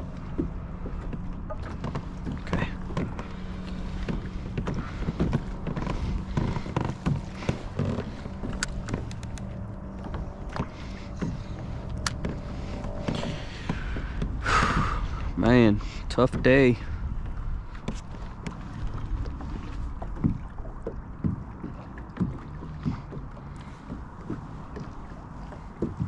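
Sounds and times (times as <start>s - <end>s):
clicks and knocks on hull: 0.0s - 15.3s, 16.1s - 26.0s
water lapping: 0.0s - 26.0s.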